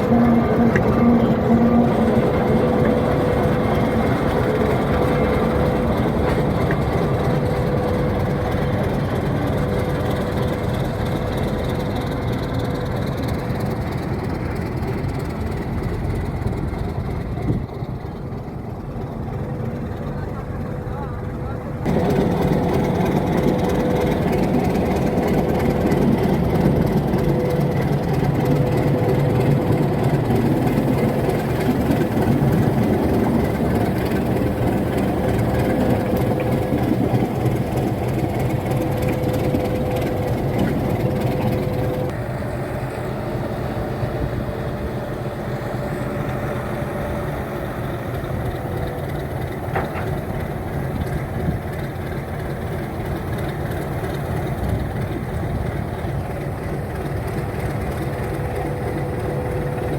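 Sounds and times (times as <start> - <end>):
diesel locomotive engine running: 0.0 - 59.9
steady whine: 0.0 - 59.9.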